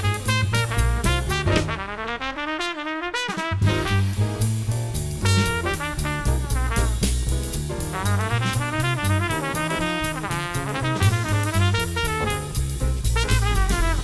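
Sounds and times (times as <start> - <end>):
walking bass line: 0.0 - 2.0, 3.6 - 14.0
drums: 0.0 - 14.0
jazz brass: 0.0 - 14.0.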